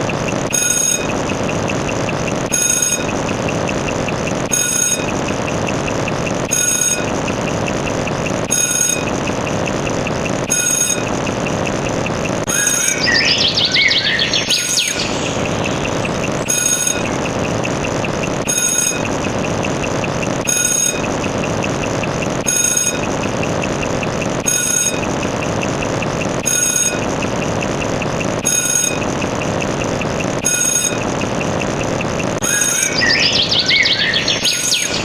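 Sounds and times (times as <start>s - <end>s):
fast ticking: 0.0s - 35.0s
steady rumbling: 0.0s - 35.0s.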